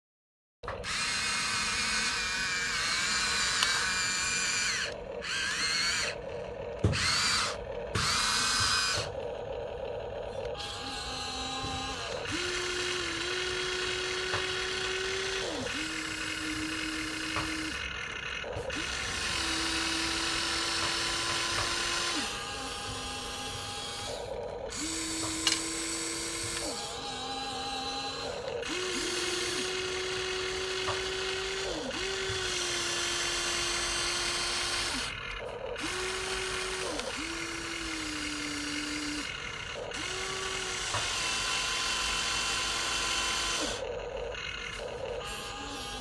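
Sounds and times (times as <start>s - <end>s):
electric motors whining: 0.6s - 46.0s
gritty gear buzz: 0.8s - 46.0s.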